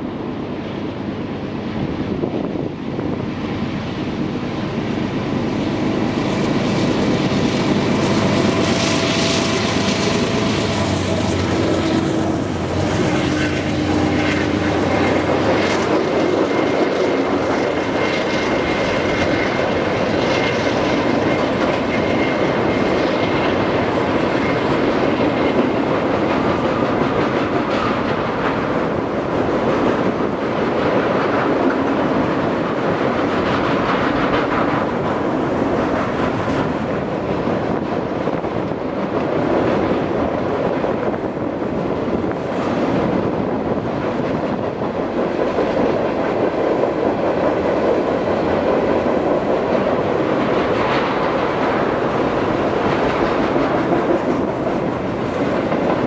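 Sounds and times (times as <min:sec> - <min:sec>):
train wheels rumbling on rails: 0:00.0 - 0:56.0
clickety-clack over rail joints: 0:05.1 - 0:56.0.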